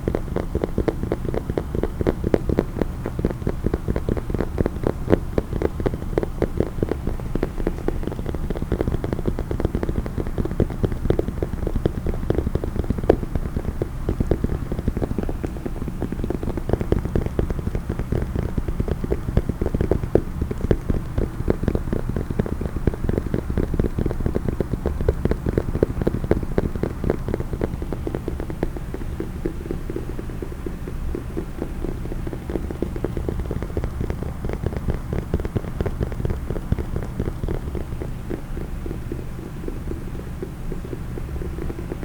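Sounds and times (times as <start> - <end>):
fast tapping on a case: 0.0 - 42.0.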